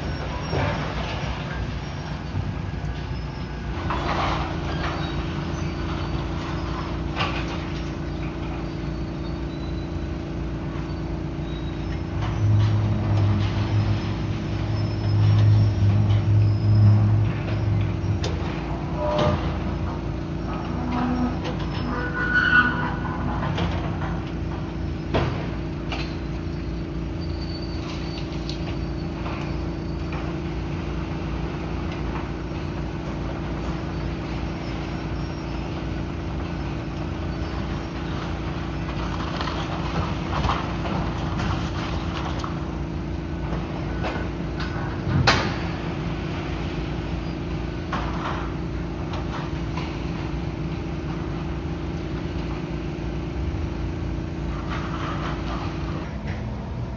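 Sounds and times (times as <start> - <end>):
heavy demolition machinery running: 0.0 - 56.9.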